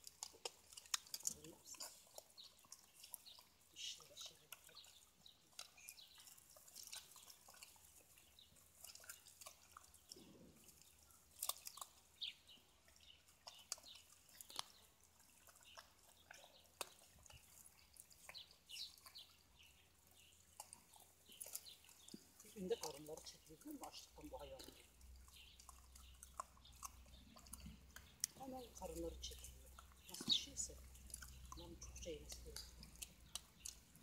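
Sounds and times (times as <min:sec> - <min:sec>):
puppies chewing and lapping: 0:00.0 - 0:34.0.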